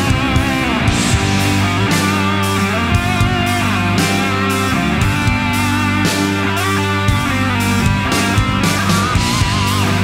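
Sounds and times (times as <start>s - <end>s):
rock music with electric guitar: 0.0s - 10.0s.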